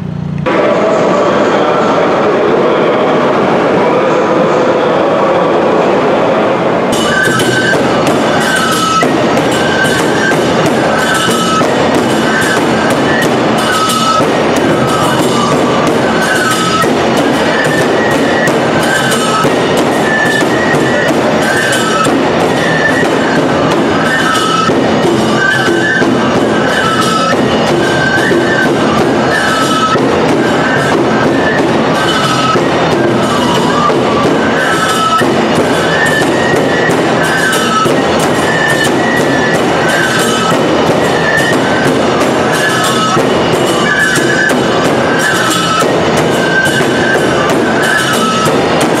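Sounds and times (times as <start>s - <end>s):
large taiko drums beating: 0.4s - 4.3s, 5.8s - 49.0s
bamboo flutes playing melody: 6.9s - 49.0s.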